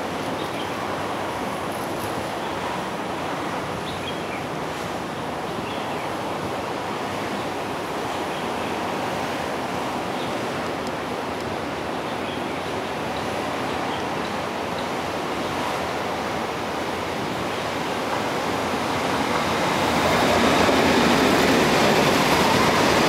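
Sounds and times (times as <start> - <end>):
diesel train approaching: 4.5 - 23.0.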